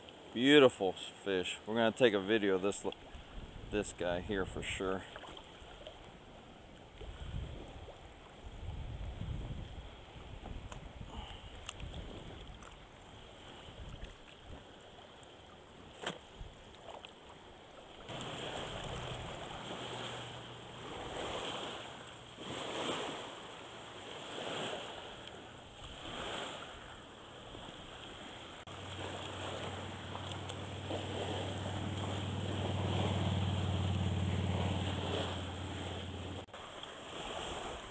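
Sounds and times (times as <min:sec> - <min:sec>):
water lapping: 0:00.0 - 0:37.9
legs swishing through water: 0:04.7 - 0:37.9.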